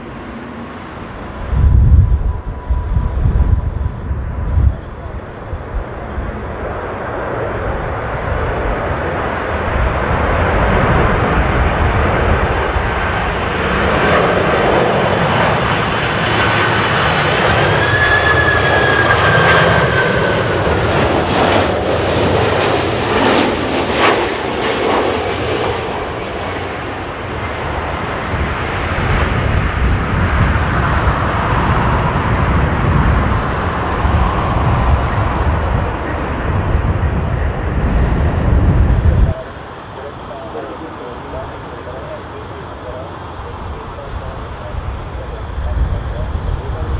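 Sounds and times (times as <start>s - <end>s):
jet engine whine: 0.0s - 46.9s
jet roar: 0.0s - 46.9s.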